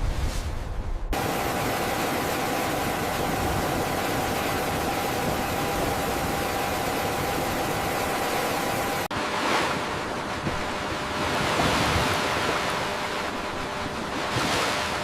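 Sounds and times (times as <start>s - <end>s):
noisy mechanical hum: 0.4s - 15.0s
sea waves washing: 1.2s - 15.0s.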